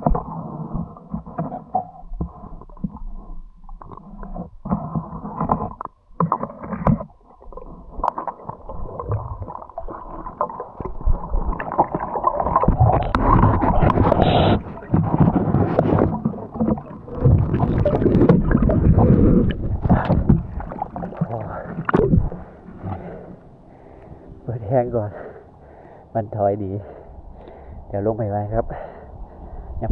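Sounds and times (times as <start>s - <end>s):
muffled water sloshing and gurgling: 0.0s - 29.9s.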